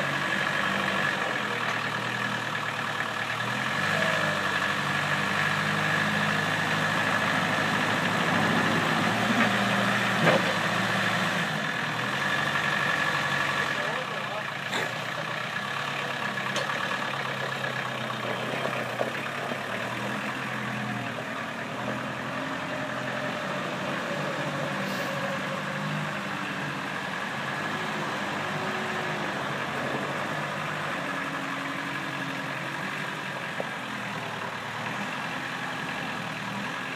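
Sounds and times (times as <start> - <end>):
forklift engine running: 0.0 - 36.9
tires on gravel: 0.0 - 36.9.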